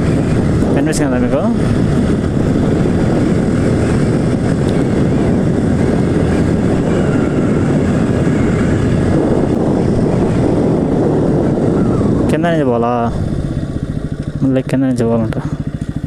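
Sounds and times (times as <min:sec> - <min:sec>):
motorcycle engine: 0:00.0 - 0:16.0
road noise: 0:00.0 - 0:16.0
wind noise: 0:00.0 - 0:16.0.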